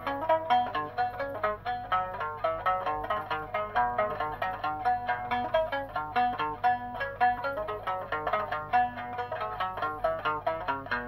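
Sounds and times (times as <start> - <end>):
plucked lute notes: 0.0 - 11.0.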